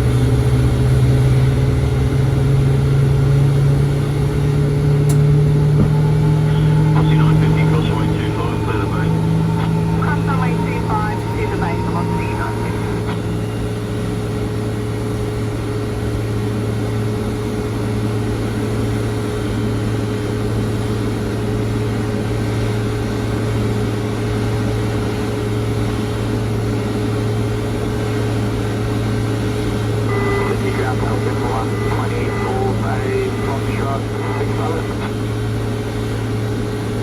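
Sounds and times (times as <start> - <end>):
aircraft engine drone: 0.0 - 37.0.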